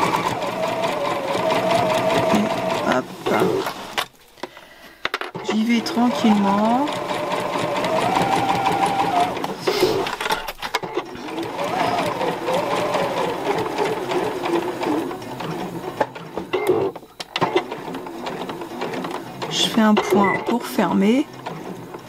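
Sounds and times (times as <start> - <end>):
sewing machine stitching: 0.0 - 4.0, 5.3 - 22.0.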